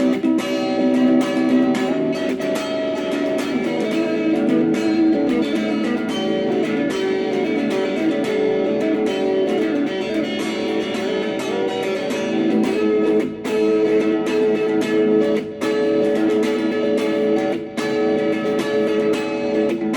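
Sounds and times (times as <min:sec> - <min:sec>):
guitar chords: 0:00.0 - 0:19.9.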